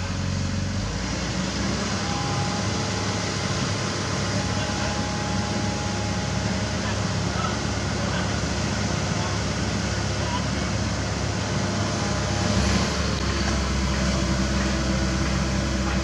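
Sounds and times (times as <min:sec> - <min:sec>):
excavator diesel engine: 0:00.0 - 0:16.0.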